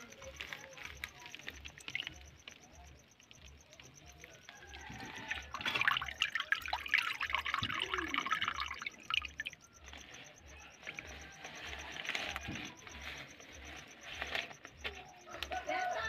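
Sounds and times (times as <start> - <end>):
muddy water splashing: 0.0 - 14.8.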